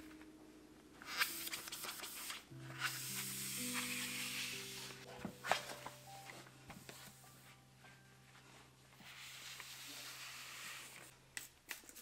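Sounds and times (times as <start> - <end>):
soft background music: 0.0 - 11.1.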